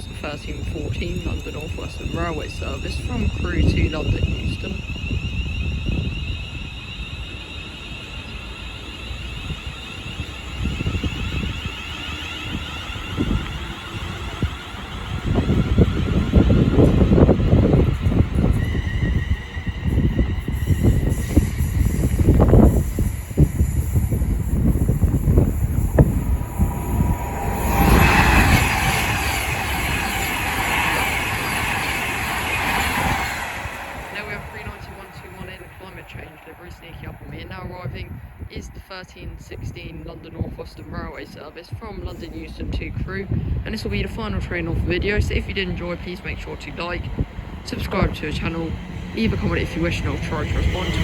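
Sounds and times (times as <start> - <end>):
electric train pulling out: 0.0 - 51.0
wind gusts on microphone: 0.0 - 51.0.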